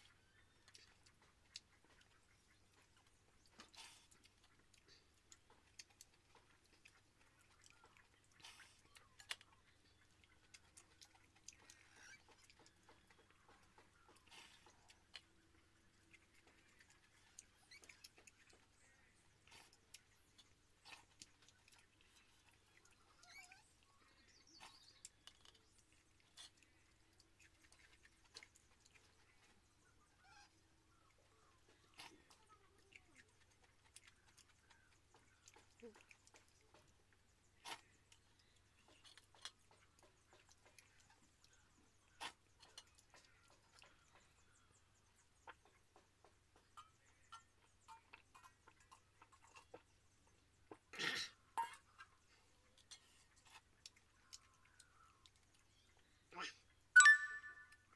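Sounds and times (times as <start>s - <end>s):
chewing and mouth sounds: 0.0s - 57.9s.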